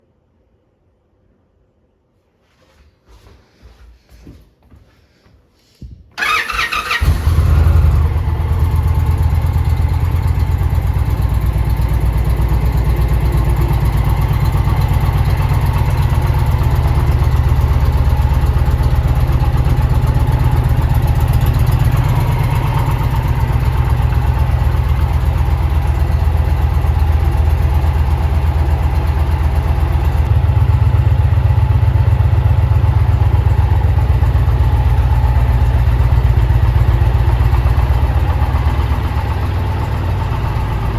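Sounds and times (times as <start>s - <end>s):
motorcycle engine idling: 6.2s - 40.9s.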